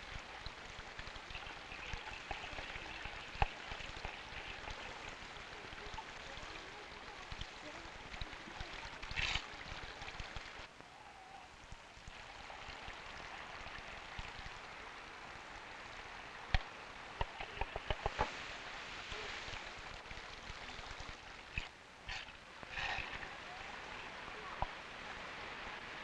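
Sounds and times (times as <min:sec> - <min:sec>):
trickle of running water: 0:00.0 - 0:26.0.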